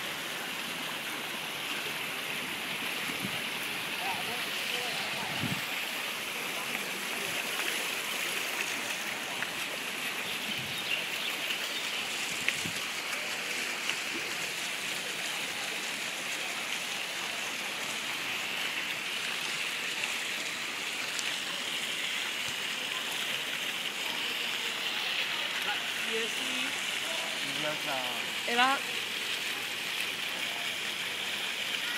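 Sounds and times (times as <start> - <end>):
fountain water splashing: 0.0 - 31.9.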